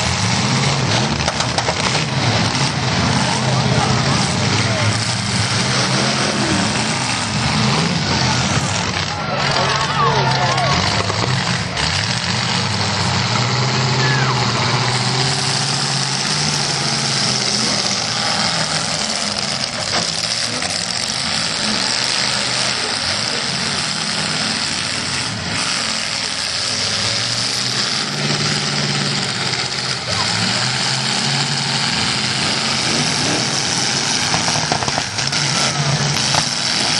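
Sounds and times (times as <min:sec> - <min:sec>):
car engines running loudly: 0:00.0 - 0:36.9.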